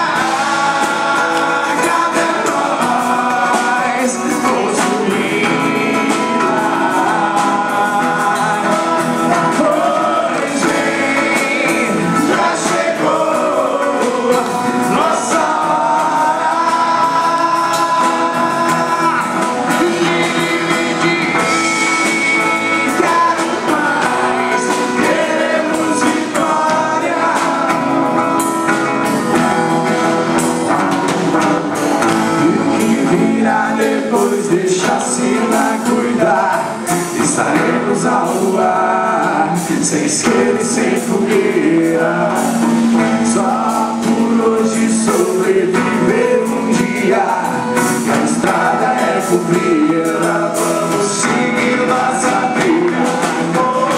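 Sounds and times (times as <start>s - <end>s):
band song with singing and guitar: 0.0s - 53.9s.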